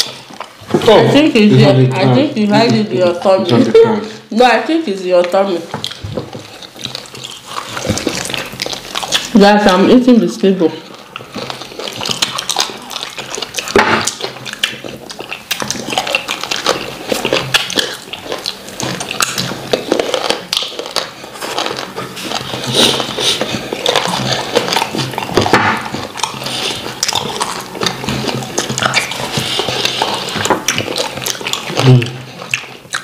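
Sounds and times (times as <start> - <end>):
wet chewing and lip-smacking: 0.0 - 3.8, 5.0 - 33.0.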